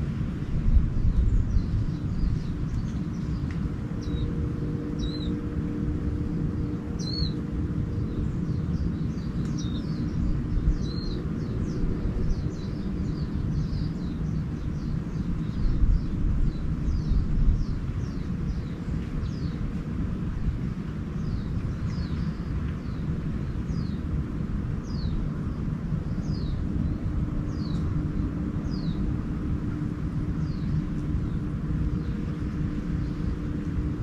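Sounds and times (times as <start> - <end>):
faint hum: 0.0 - 34.0
low rumble: 0.0 - 34.0
small birds chirping: 0.6 - 20.0, 20.9 - 33.9.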